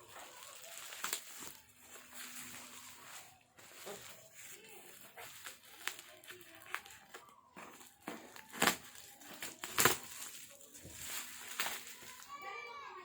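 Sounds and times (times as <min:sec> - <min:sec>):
packaging crinkling and crackling: 0:00.0 - 0:13.0.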